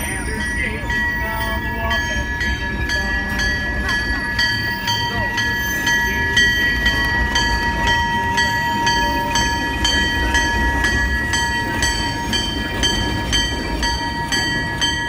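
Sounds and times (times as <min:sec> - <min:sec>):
diesel locomotive engine rumble: 0:00.0 - 0:15.0
locomotive bell ringing: 0:00.0 - 0:15.0.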